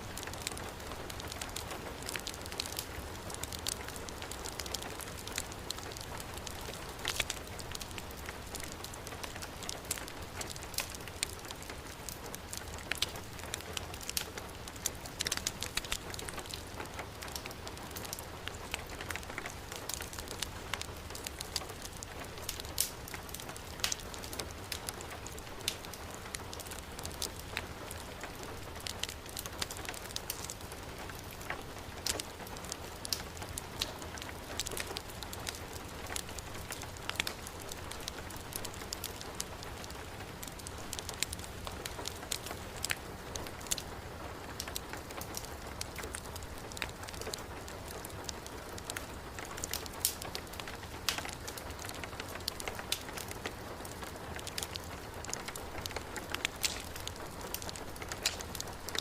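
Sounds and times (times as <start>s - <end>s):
heavy rain falling: 0.0s - 59.0s
wood fire crackling: 0.0s - 59.0s.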